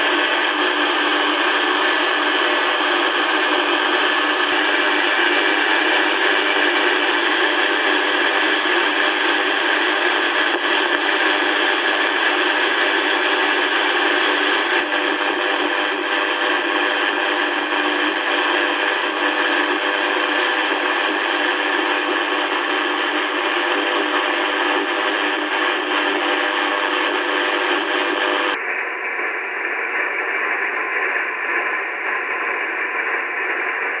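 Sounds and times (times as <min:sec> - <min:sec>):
radio interference hiss: 0:00.0 - 0:34.0.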